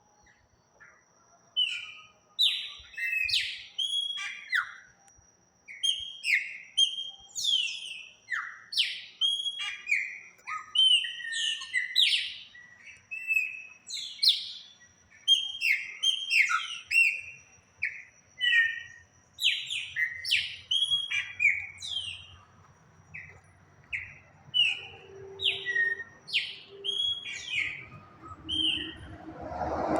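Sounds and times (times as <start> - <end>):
small birds chirping: 0.3 - 5.0, 5.6 - 29.2.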